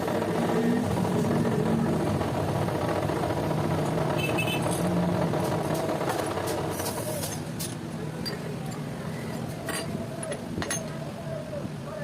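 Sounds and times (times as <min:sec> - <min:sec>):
machine running steadily: 0:00.0 - 0:09.9.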